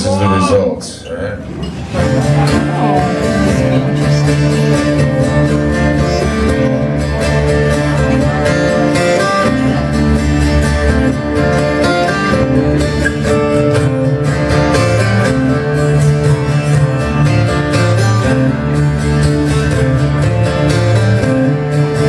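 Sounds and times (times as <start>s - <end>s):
acoustic guitars strumming chords: 1.4s - 22.0s.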